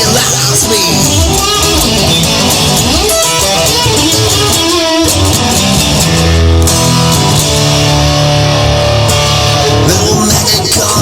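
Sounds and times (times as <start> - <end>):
bass guitar: 0.0 - 11.0
rock electric guitar: 0.0 - 11.0.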